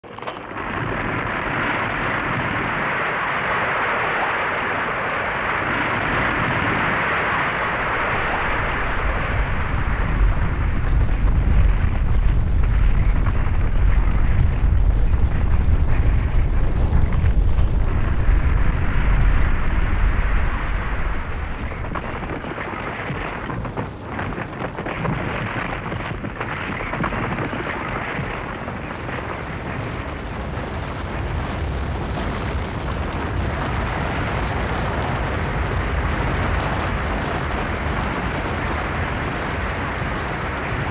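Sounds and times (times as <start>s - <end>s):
avalanche rushing rumble: 0.0s - 40.9s.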